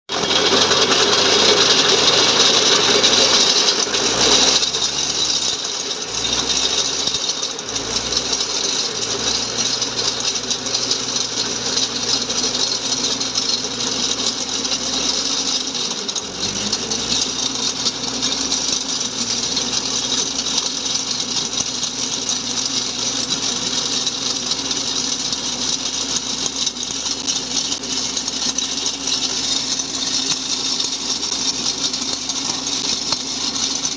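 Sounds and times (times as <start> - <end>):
rattling mechanical clatter: 0.1 - 33.9
tractor engine running: 0.1 - 33.9.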